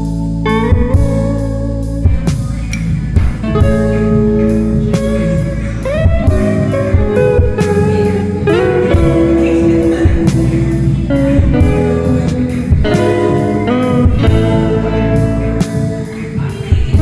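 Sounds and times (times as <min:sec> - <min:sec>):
blues guitar with slides: 0:00.0 - 0:17.0
steady beat: 0:00.0 - 0:17.0.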